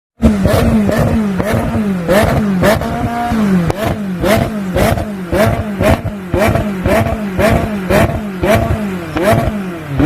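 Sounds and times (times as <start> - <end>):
car engine revving: 0.2 - 10.0.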